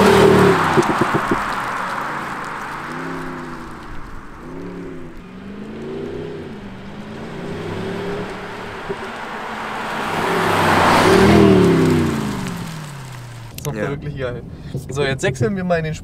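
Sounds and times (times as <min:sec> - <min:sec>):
tyre noise: 0:00.0 - 0:13.8
car engine accelerating: 0:00.0 - 0:15.4.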